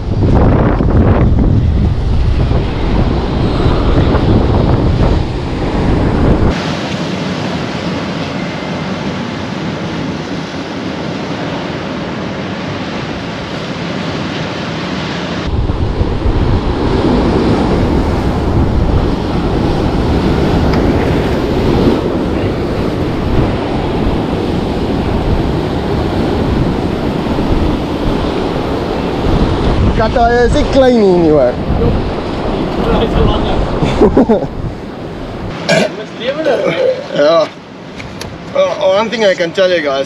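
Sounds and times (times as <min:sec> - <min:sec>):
wind buffeting microphone: 0:00.0 - 0:35.7
sea surf washing between rocks: 0:00.0 - 0:40.0.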